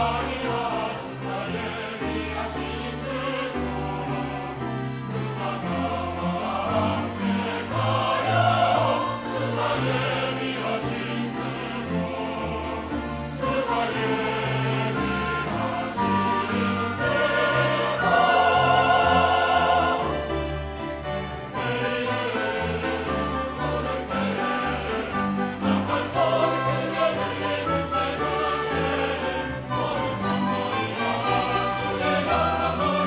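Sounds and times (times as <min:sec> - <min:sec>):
cellos: 0:00.0 - 0:33.0
choir singing a hymn: 0:00.0 - 0:33.0
piano: 0:00.0 - 0:33.0
violins: 0:00.0 - 0:33.0.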